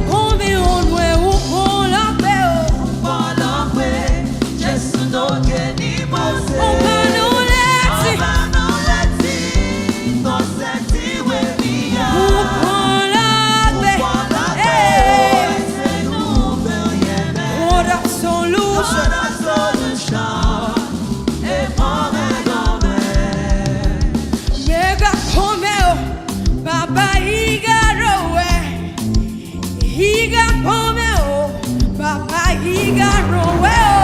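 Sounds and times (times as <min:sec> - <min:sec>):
person singing gospel: 0:00.0 - 0:26.1, 0:26.7 - 0:34.0
bass and drums: 0:00.0 - 0:34.0.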